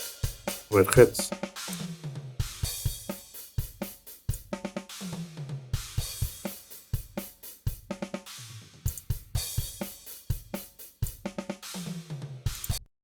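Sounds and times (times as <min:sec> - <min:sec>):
drum kit groove: 0:00.0 - 0:01.8, 0:02.4 - 0:12.8.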